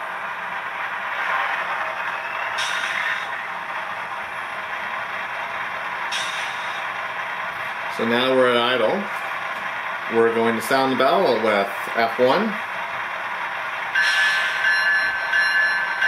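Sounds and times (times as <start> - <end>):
model diesel engine sound: 0.0 - 16.0.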